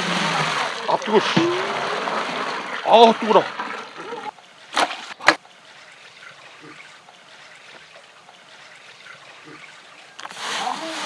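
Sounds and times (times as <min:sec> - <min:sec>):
faint watery rushing: 0:00.0 - 0:11.0.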